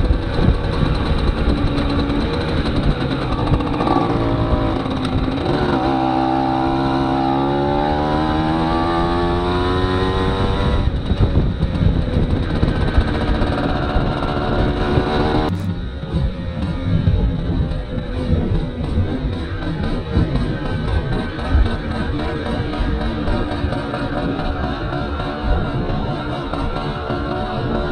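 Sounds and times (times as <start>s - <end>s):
moped engine running: 0.0s - 27.9s
wind on microphone: 0.0s - 27.9s.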